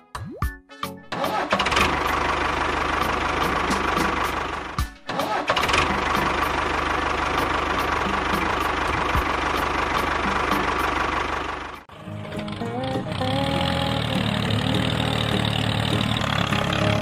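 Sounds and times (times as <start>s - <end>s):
tractor engine running: 1.1s - 17.0s.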